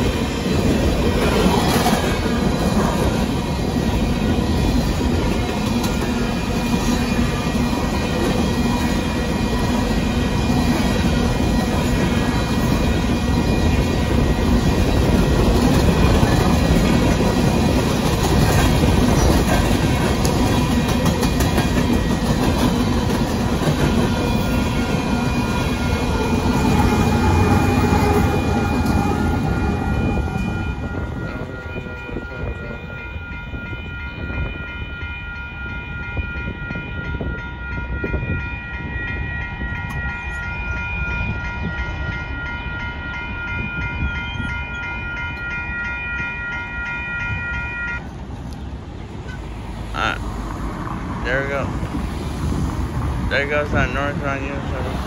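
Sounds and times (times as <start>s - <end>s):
train cars rumbling past: 0.0s - 55.0s.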